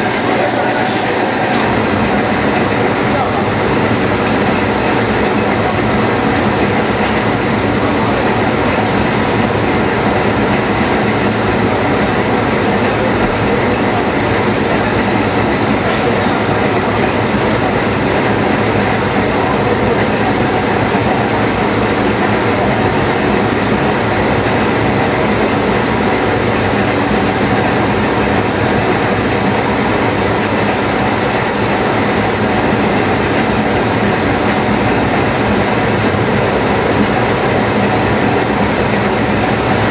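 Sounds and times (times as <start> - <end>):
spring coiling machine running: 0.0 - 39.9.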